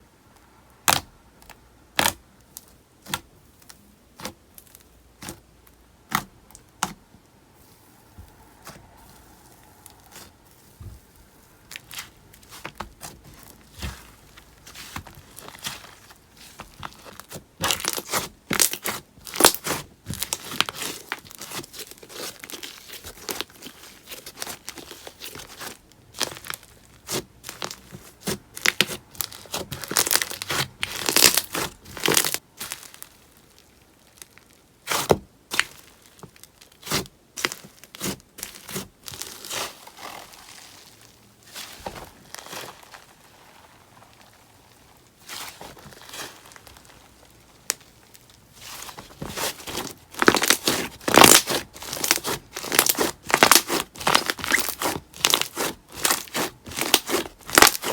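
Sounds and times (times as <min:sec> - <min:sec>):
slime squeezed by hand crackling: 0:11.5 - 0:57.9.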